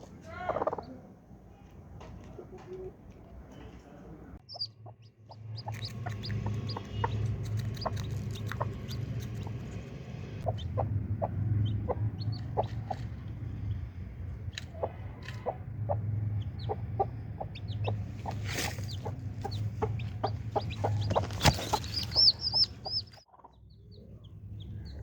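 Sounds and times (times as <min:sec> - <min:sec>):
hen clucking: 0:00.0 - 0:01.0, 0:04.4 - 0:13.2, 0:14.4 - 0:25.0
chicks cheeping: 0:00.4 - 0:01.0, 0:04.4 - 0:25.0.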